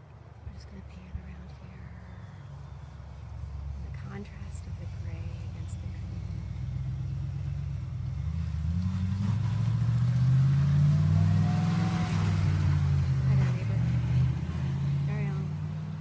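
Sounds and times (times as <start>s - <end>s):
vehicle driving past: 0.7s - 16.0s.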